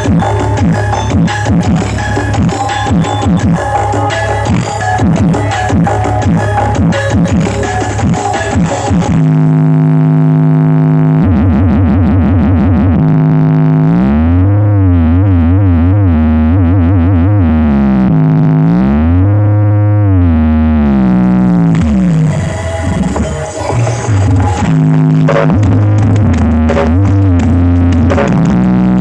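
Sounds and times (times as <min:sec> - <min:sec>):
synthesizer bass tone: 0:00.0 - 0:29.0.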